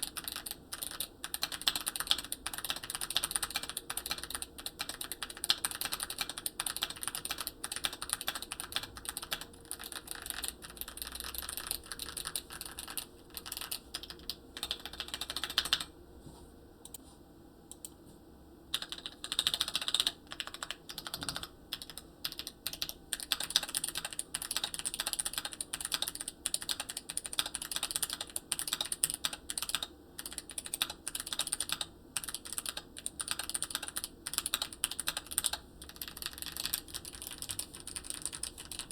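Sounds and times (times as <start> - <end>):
fast typing on mechanical keyboard: 0.0 - 15.9, 18.7 - 38.9.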